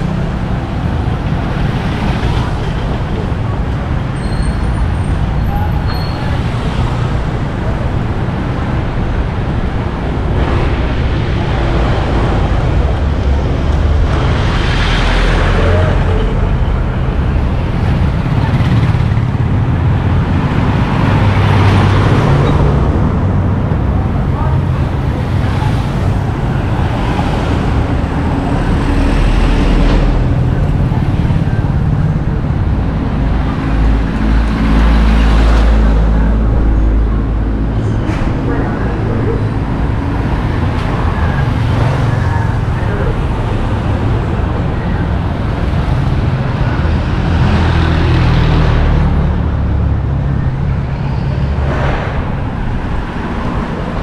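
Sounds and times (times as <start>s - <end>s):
deep engine rumble: 0.0s - 54.0s
road traffic passing: 0.0s - 54.0s.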